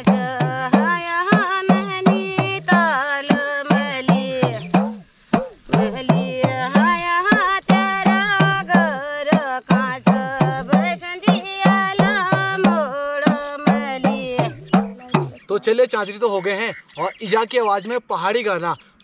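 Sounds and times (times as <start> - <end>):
hand drum beat: 0.0 - 15.5
person singing folk song: 0.0 - 15.5.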